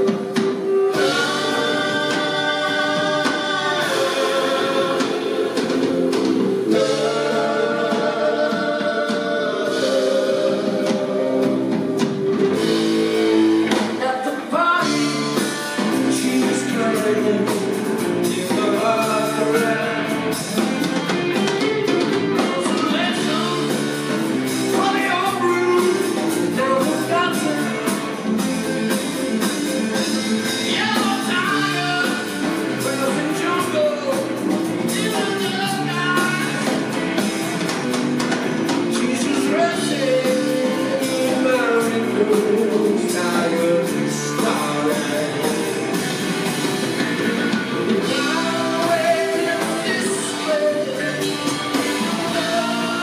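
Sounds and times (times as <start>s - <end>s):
distorted electric guitar: 0.0s - 53.0s
drum kit: 0.0s - 53.0s
electric bass: 0.0s - 53.0s
lead vocal singing: 0.0s - 53.0s.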